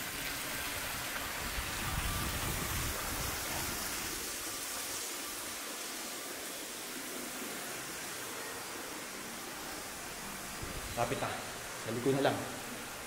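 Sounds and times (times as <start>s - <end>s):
rushing hiss: 0.0s - 13.0s.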